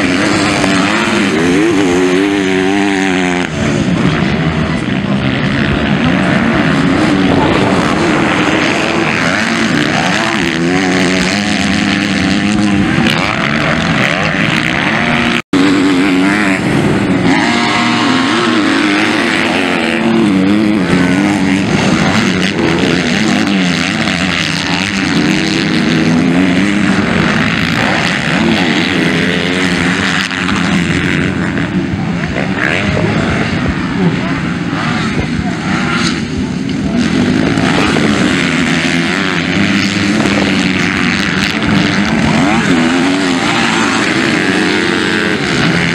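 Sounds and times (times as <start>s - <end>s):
motocross motorcycles revving: 0.0s - 45.9s.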